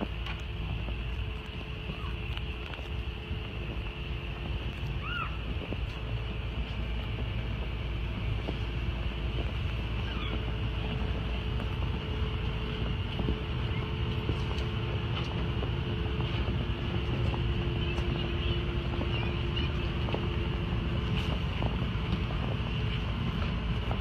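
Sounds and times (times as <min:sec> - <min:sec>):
faint whining tone: 0:00.0 - 0:24.0
locomotive rumble and hum: 0:00.0 - 0:24.0
wind on microphone: 0:00.0 - 0:24.0.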